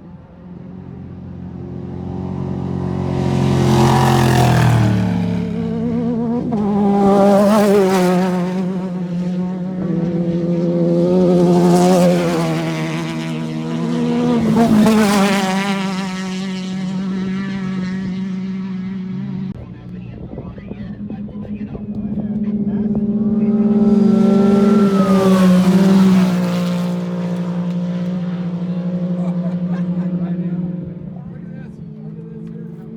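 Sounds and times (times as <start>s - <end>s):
race vehicle engines passing: 0.0s - 32.9s.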